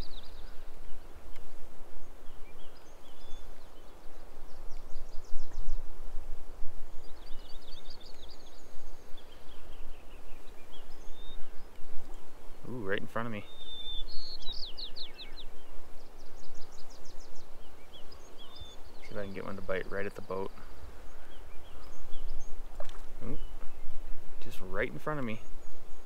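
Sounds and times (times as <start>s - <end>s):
songbirds trilling: 0.0s - 26.0s
wind buffeting microphone: 0.0s - 26.0s.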